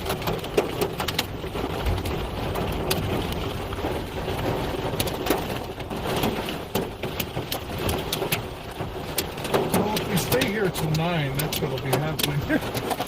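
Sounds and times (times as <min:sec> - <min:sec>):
particles ticking on car body: 0:00.0 - 0:13.0
wind buffeting car: 0:00.0 - 0:13.0.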